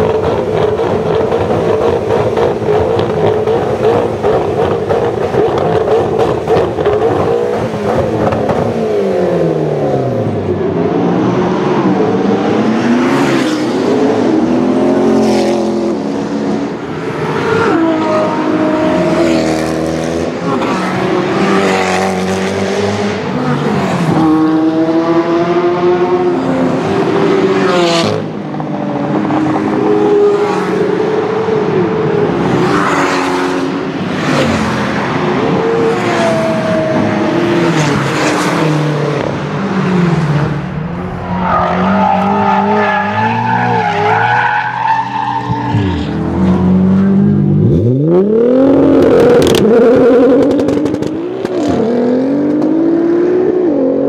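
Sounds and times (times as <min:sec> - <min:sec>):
car engine revving: 0:00.0 - 0:54.0
race car engines accelerating: 0:00.0 - 0:54.0.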